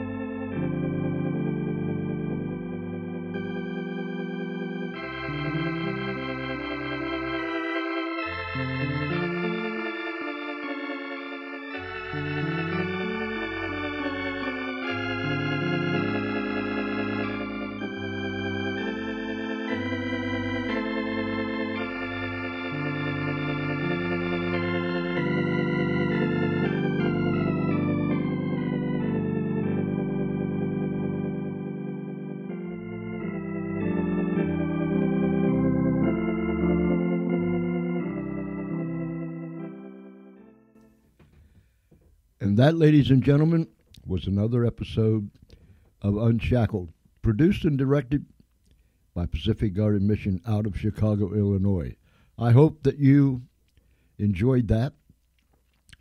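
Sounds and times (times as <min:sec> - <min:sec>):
organ playing held chords: 0:00.0 - 0:48.2.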